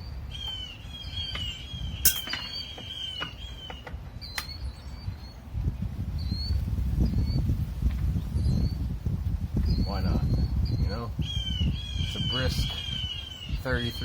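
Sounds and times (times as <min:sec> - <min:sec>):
songbird chirping: 0:00.0 - 0:09.0, 0:09.6 - 0:14.0.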